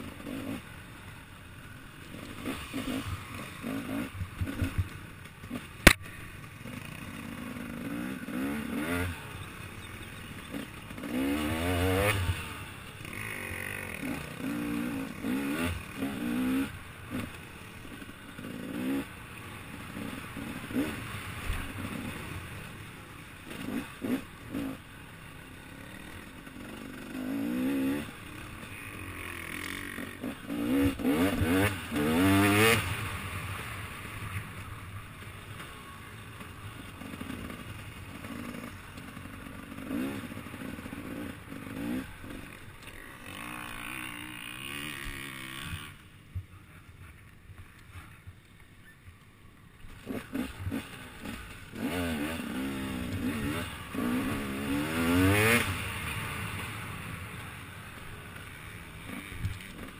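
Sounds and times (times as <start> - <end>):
dirt bike engine revving: 0.0 - 34.8, 35.8 - 46.0, 50.0 - 59.9.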